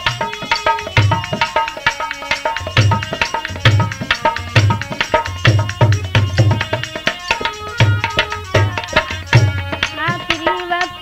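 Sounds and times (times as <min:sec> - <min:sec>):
hand drum rhythm: 0:00.0 - 0:11.0.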